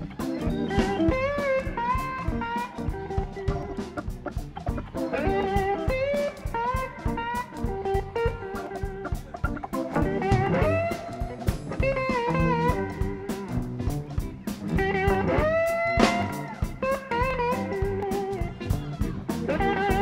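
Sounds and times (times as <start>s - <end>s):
bass guitar: 0.0s - 20.0s
drum kit: 0.0s - 20.0s
electric guitar solo: 0.0s - 20.0s.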